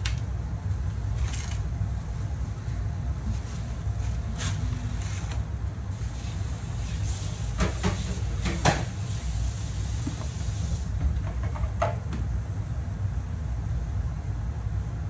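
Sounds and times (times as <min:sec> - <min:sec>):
gas stove low rumble: 0:00.0 - 0:15.0.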